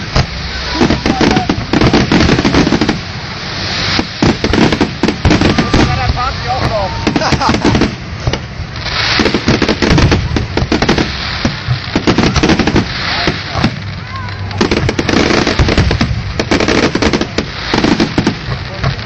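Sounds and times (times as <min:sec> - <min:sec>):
fireworks bangs and crackling: 0:00.0 - 0:19.0
fireworks hissing: 0:00.0 - 0:19.0.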